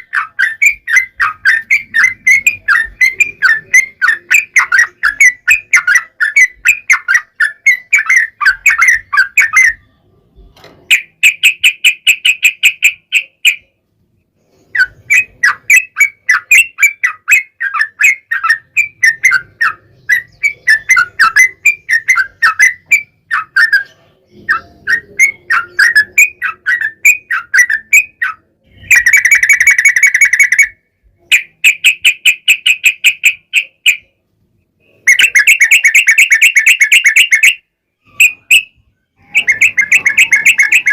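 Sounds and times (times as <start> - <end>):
rapid buzzy bird trills: 0.0 - 10.0, 10.9 - 13.8, 14.4 - 34.2, 34.8 - 40.9
bird chattering song: 0.0 - 40.9.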